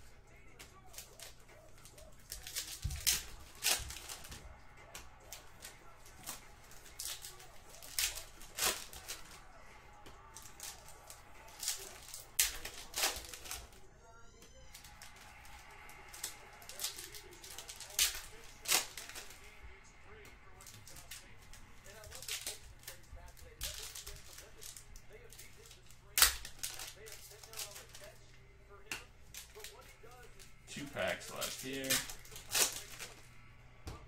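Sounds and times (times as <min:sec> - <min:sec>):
cards clicking and snapping: 0:00.0 - 0:13.9, 0:14.7 - 0:33.5
foil wrappers tearing and crinkling: 0:00.3 - 0:13.8, 0:14.7 - 0:33.3.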